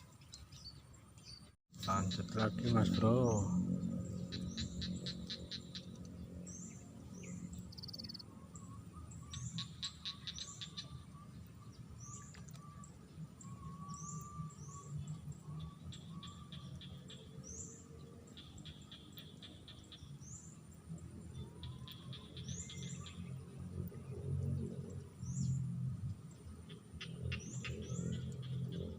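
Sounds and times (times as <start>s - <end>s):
birds chirping: 0.0s - 25.6s, 26.2s - 28.9s.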